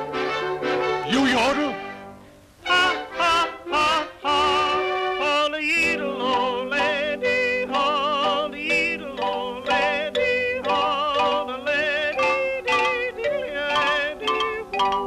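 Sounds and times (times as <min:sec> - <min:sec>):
steady held accompaniment: 0:00.0 - 0:15.0
person yodeling: 0:02.7 - 0:15.0.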